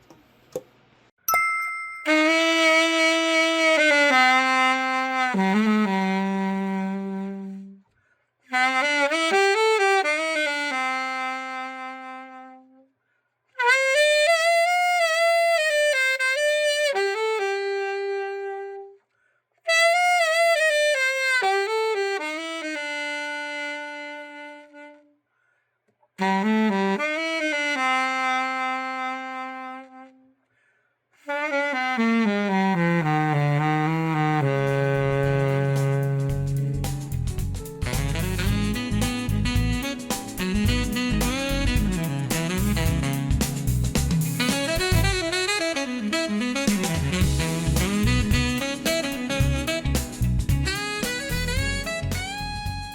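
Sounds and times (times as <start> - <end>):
solo alto saxophone: 2.1 - 25.3, 26.2 - 52.9.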